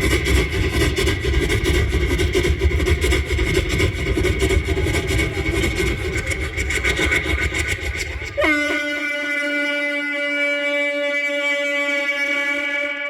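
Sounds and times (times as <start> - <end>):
man imitating a train: 0.0 - 13.0.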